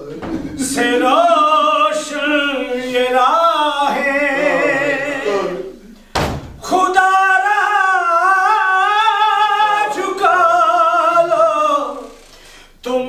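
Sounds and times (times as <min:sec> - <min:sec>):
man singing unaccompanied: 0:00.4 - 0:06.0, 0:06.6 - 0:13.0.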